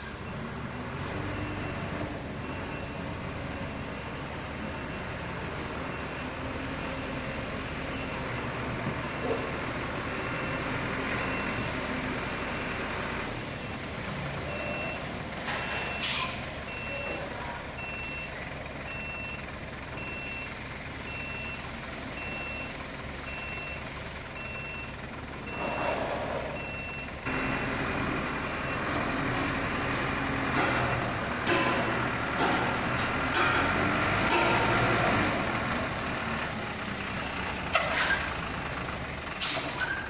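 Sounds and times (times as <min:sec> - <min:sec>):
truck backup beeper: 0:00.0 - 0:40.0
truck engine running: 0:00.0 - 0:40.0.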